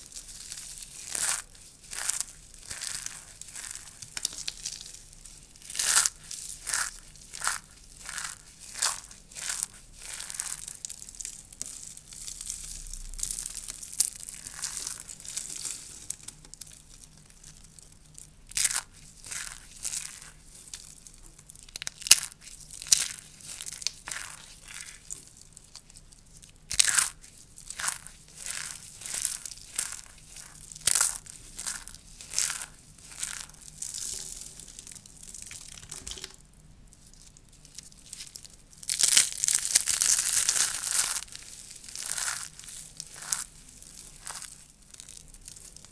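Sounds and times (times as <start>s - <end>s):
dry soap crunching and crumbling: 0.0s - 45.9s.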